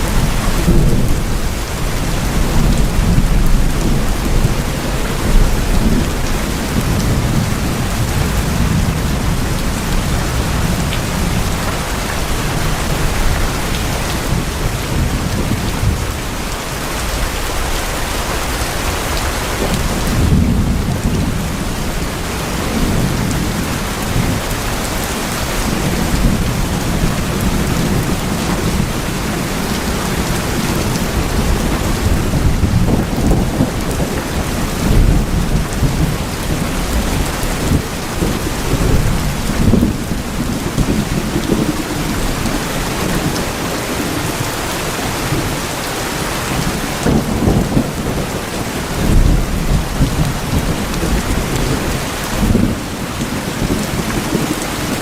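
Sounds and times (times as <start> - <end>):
low rolling thunder: 0.0 - 17.8, 19.6 - 55.0
heavy rain on tin roofs: 0.0 - 55.0.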